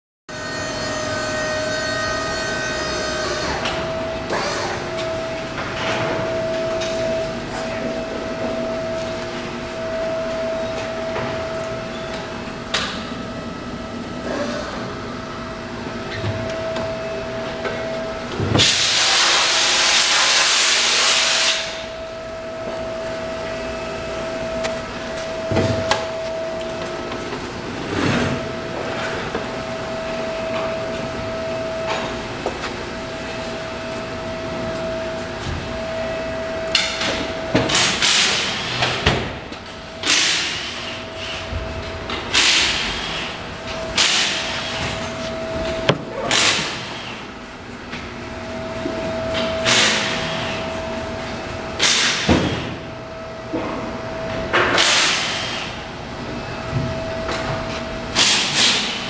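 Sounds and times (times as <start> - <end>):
steady workshop hum: 0.3 - 59.0.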